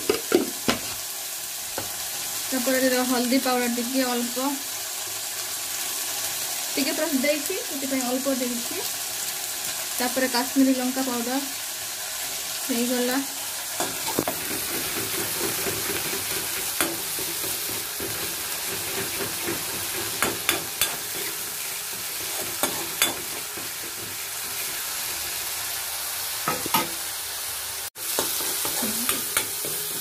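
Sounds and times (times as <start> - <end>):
masala sizzling in oil: 0.0 - 30.0.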